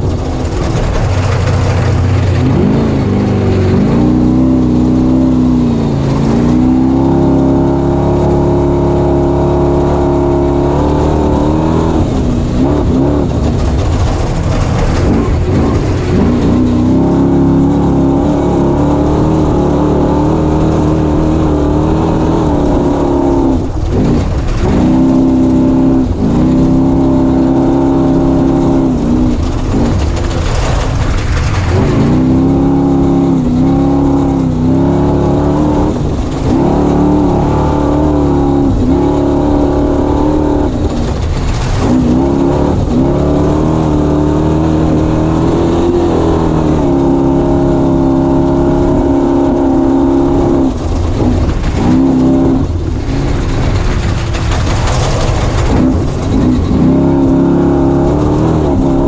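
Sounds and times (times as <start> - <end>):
race vehicle engine revving: 0.0 - 59.0.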